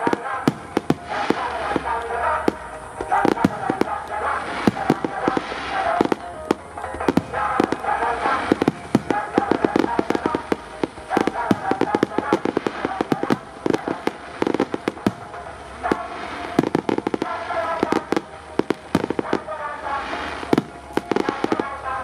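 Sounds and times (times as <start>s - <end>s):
fireworks bangs and cracks: 0.0s - 21.9s
music over public-address system: 0.0s - 22.0s.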